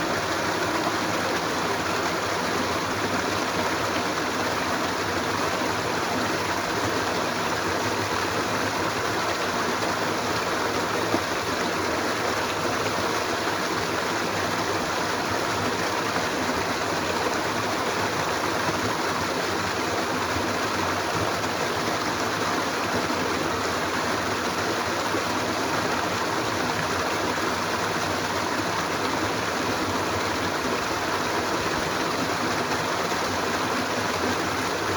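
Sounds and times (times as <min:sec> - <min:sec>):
stream of running water: 0:00.0 - 0:34.9.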